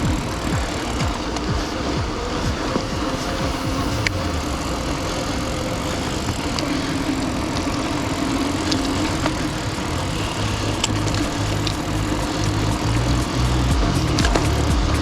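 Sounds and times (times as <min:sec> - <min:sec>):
bike tyres rolling: 0:00.0 - 0:15.0
wind on microphone: 0:00.0 - 0:15.0.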